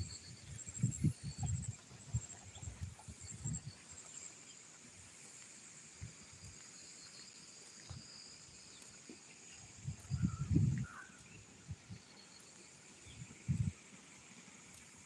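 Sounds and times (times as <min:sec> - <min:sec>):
high insect chirring: 0:00.0 - 0:15.0.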